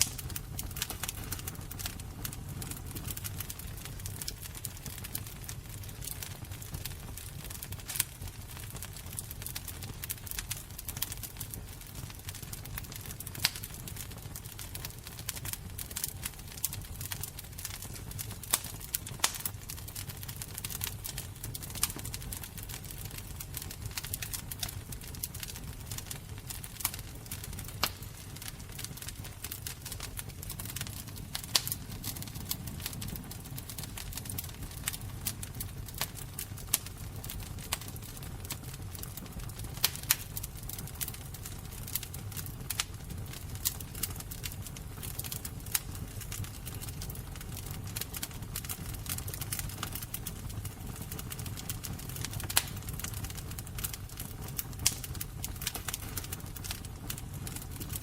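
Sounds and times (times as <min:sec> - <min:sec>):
fire crackling: 0:00.0 - 0:58.0
low rumble of flames: 0:00.0 - 0:58.0.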